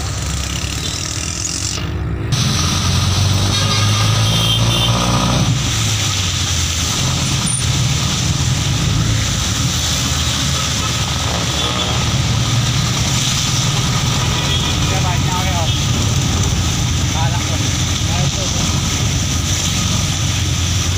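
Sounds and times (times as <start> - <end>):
tyres hissing on wet road: 0.0 - 20.9
falling rain: 2.3 - 20.9.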